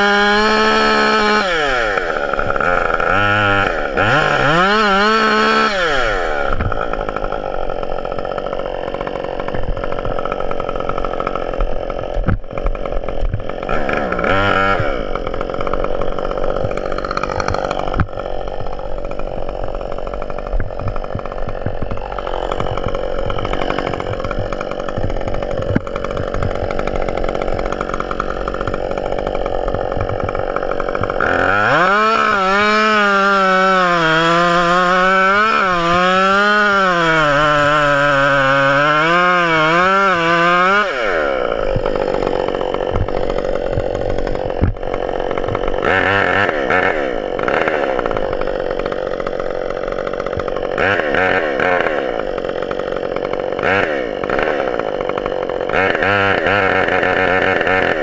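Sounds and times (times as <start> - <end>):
chainsaw revving and cutting: 0.0 - 58.0.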